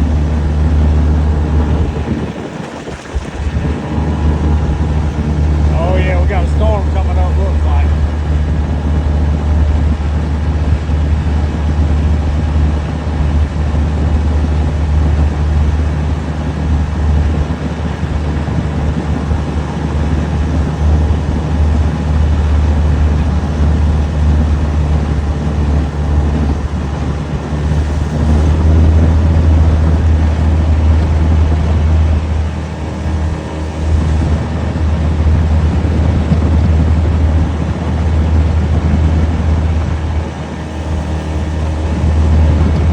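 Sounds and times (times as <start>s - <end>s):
boat motor droning: 0.0s - 42.9s.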